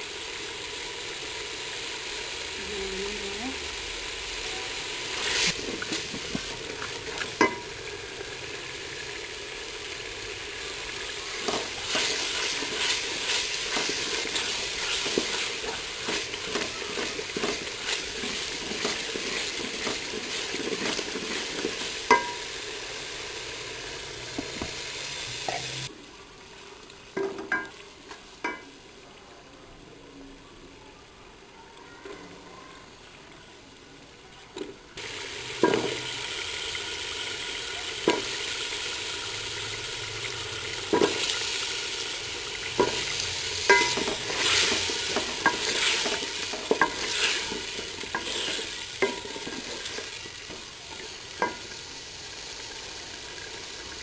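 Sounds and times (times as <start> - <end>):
onions sizzling in oil: 0.0 - 54.0.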